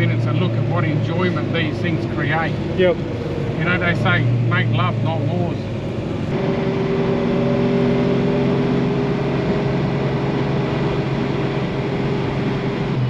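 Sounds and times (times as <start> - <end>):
car engine drone: 0.0 - 13.0
road noise: 0.0 - 13.0.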